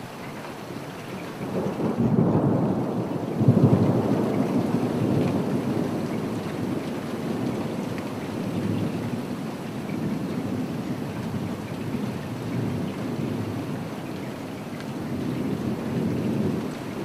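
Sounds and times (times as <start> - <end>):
steady rain: 0.0 - 17.0
low rumble of thunder: 1.4 - 17.0.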